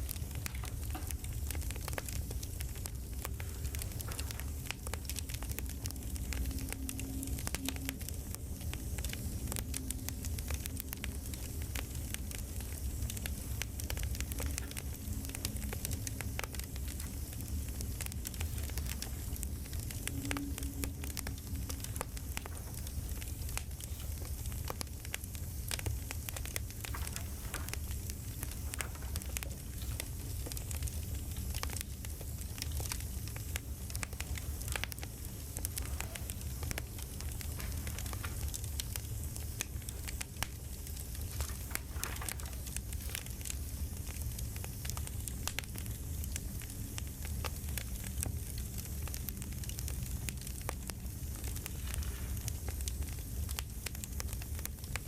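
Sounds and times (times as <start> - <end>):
steady low rumble: 0.0 - 55.0
wood fire crackling and popping: 0.0 - 55.0.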